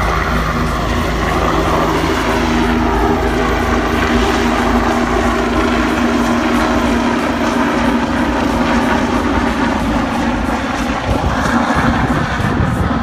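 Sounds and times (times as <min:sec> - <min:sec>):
helicopter engine whine: 0:00.0 - 0:13.0
helicopter rotor noise: 0:00.0 - 0:13.0.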